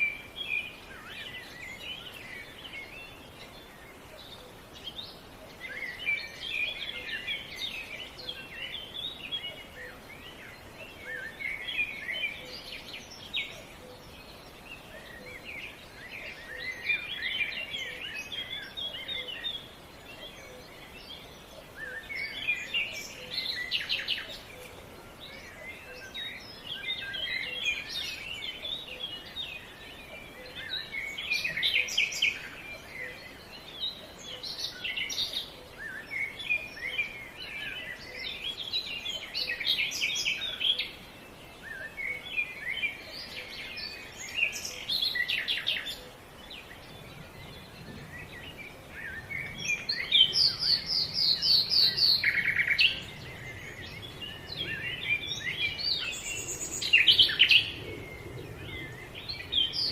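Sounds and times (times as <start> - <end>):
faint outdoor hiss: 0.0 - 59.9
songbirds chirping: 0.0 - 59.9.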